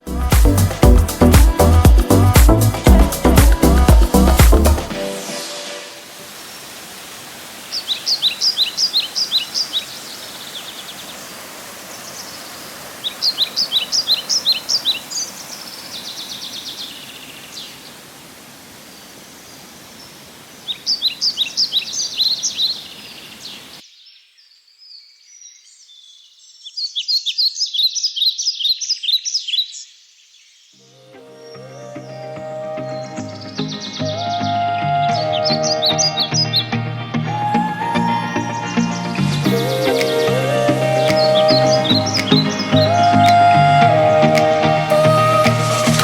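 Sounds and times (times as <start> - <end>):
outdoor noise hiss: 0.0 - 46.0.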